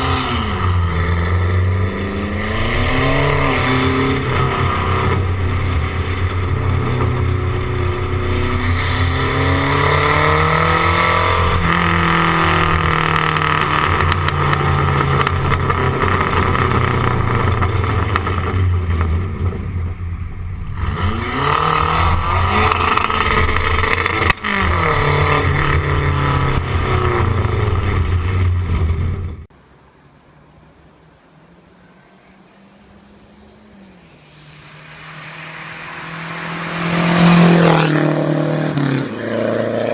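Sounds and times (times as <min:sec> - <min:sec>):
car engine running hard: 0:00.0 - 0:29.5, 0:32.8 - 0:39.9.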